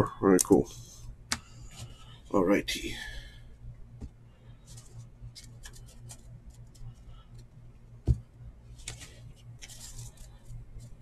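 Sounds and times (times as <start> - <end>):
faint steady low hum: 0.0 - 11.0.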